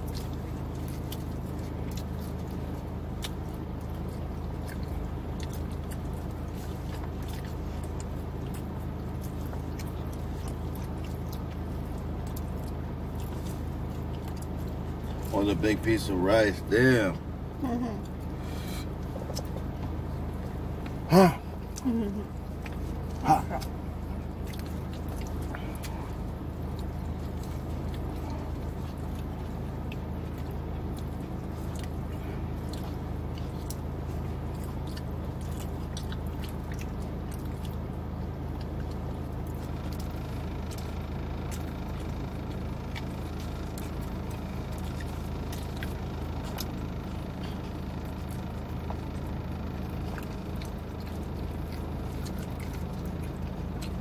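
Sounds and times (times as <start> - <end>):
person chewing: 0.0 - 16.0, 17.3 - 54.0
car cabin hum: 0.0 - 54.0.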